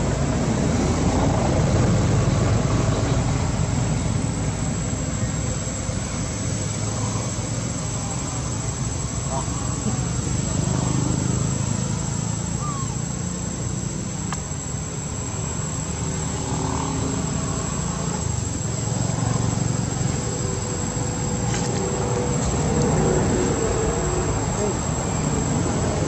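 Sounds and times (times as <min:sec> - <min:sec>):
insects buzzing: 0:00.0 - 0:26.0
faint chirps: 0:04.9 - 0:26.0.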